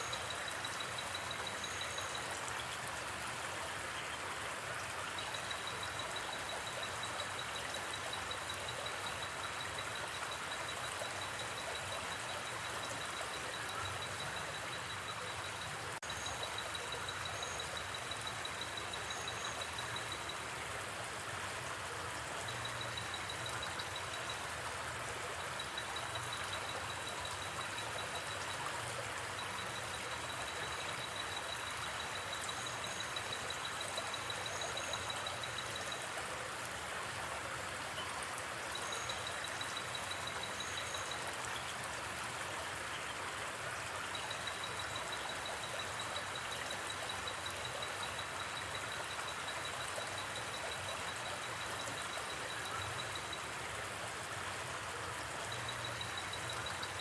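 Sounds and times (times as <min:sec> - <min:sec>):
flowing river: 0:00.0 - 0:57.0.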